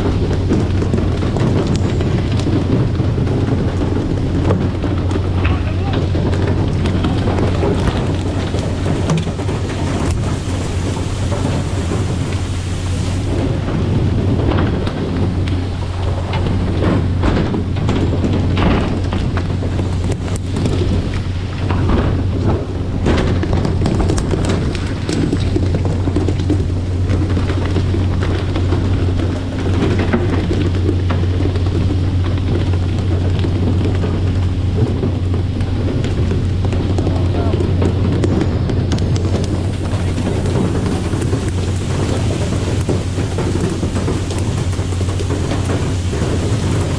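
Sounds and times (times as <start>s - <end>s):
boat engine low hum: 0.0s - 46.9s
water spray hissing and splattering: 0.0s - 46.9s.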